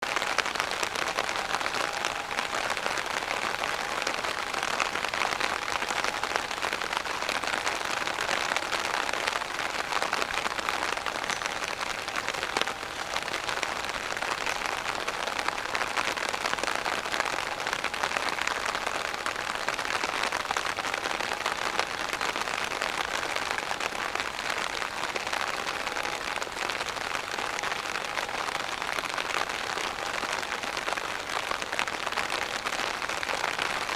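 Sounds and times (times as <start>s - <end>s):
heavy rain on an umbrella: 0.0s - 33.9s.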